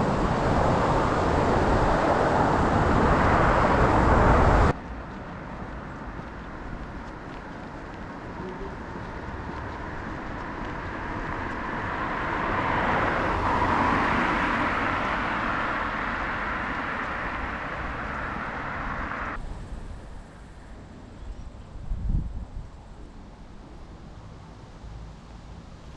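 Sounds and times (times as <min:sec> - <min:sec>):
road vehicle passing: 0:00.0 - 0:21.1.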